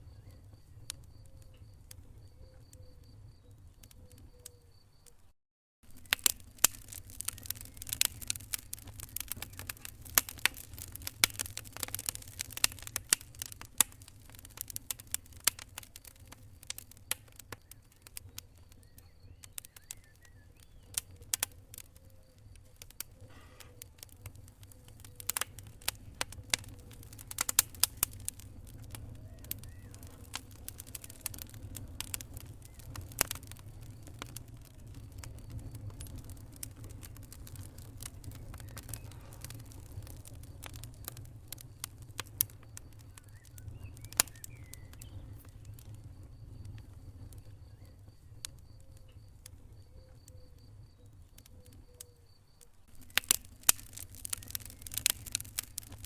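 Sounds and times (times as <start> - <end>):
wood fire crackling: 0.0 - 5.2, 5.8 - 56.0.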